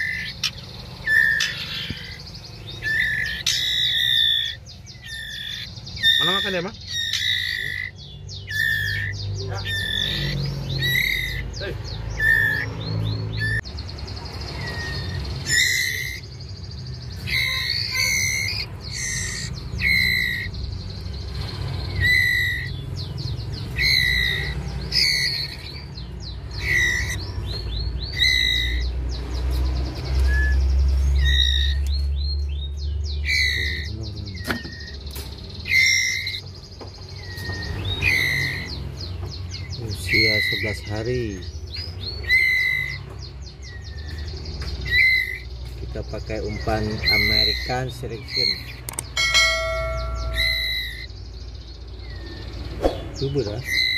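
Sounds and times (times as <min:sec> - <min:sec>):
fledglings begging calls: 0:00.0 - 0:53.9.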